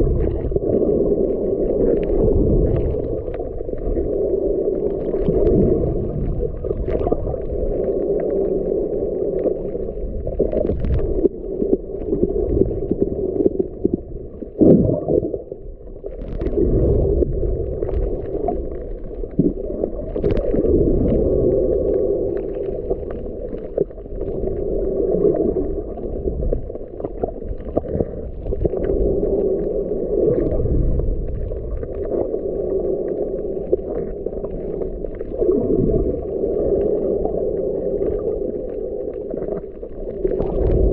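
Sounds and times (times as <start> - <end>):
underwater water rushing: 0.0 - 40.9.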